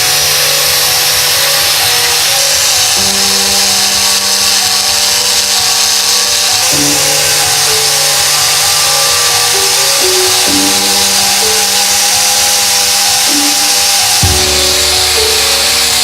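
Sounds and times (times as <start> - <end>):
loud electronic music: 0.0 - 16.0.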